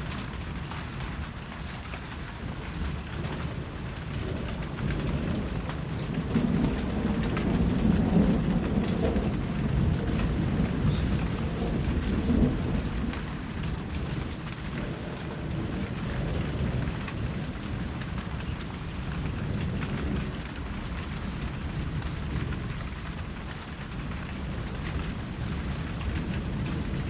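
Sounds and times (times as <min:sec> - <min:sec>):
steady rainfall: 0:00.0 - 0:27.0.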